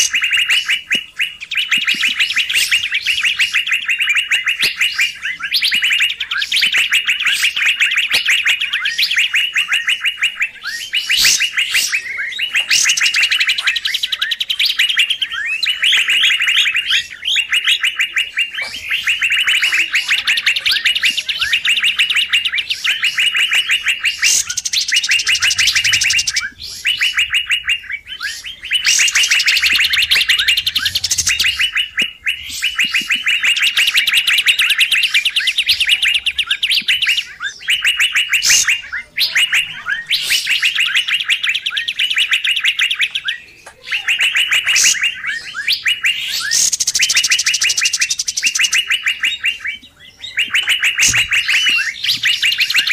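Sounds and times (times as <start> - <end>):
bird chattering: 0.0 - 52.9
gliding whistled bird notes: 0.0 - 52.9.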